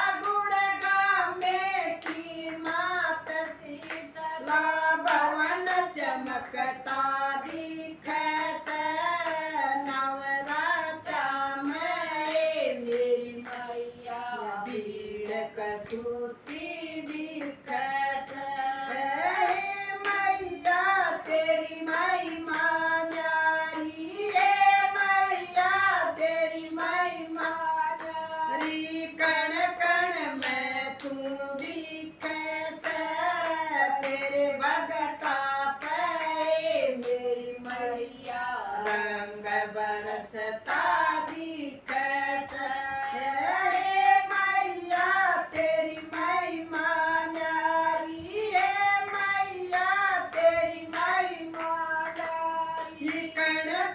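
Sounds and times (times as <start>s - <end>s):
hand-clapping: 0.0s - 53.9s
women singing devotional song: 0.0s - 53.9s.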